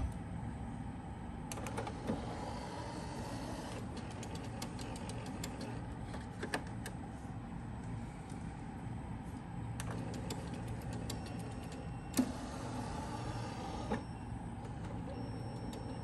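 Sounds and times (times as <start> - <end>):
quiet motor whirr: 0.0 - 16.0.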